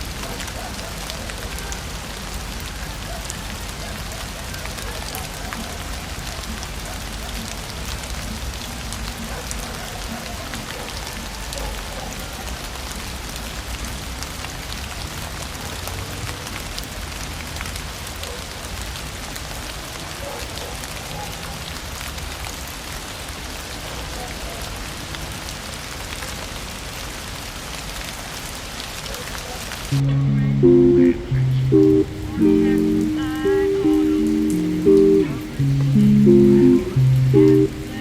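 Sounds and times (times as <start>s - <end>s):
rain falling on surfaces: 0.0s - 38.0s.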